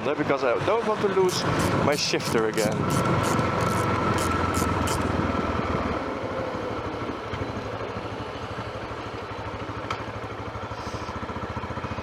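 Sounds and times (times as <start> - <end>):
motorcycle engine idling: 0.6 - 12.0.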